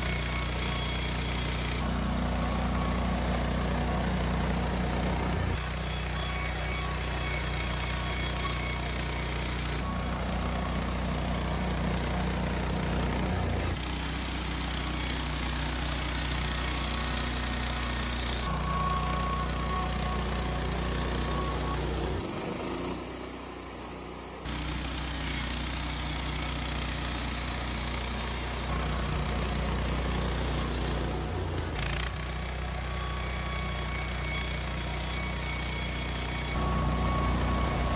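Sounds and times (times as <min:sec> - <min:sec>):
band sawmill cutting wood: 0:00.0 - 0:37.9.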